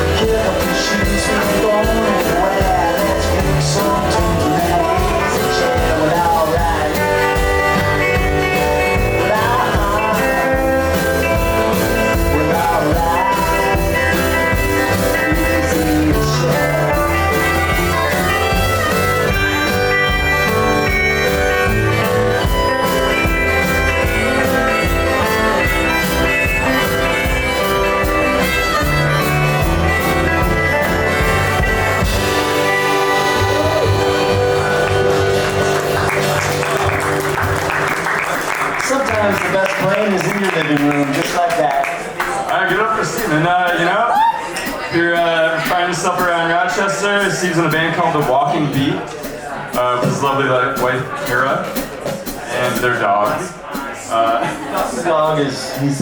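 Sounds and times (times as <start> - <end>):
guitar: 0.0 - 56.0
live band playing blues-rock: 0.0 - 56.0
steady drum beat: 0.0 - 56.0.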